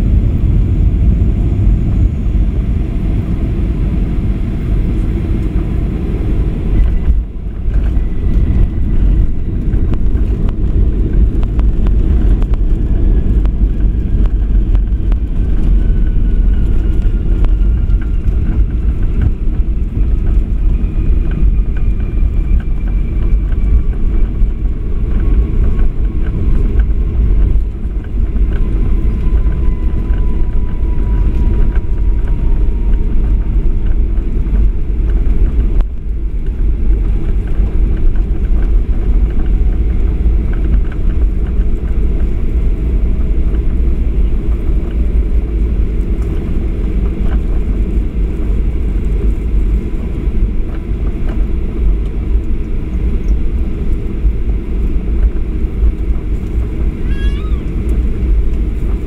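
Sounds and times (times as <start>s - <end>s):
jet engine whine: 0.0s - 59.0s
low rumble of wheels: 0.0s - 59.0s.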